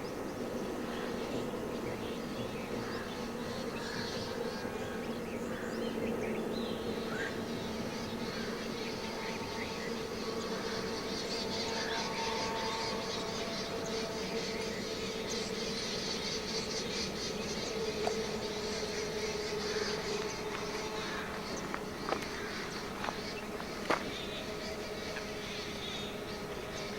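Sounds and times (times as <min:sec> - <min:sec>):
insects buzzing drone: 0:00.0 - 0:26.9.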